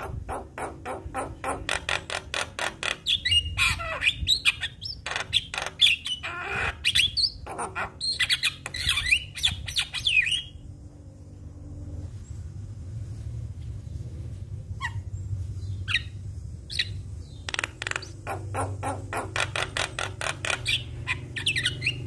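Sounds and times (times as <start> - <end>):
myna bird calling: 0.0 - 10.6, 14.7 - 22.0
low background hum: 0.0 - 22.0.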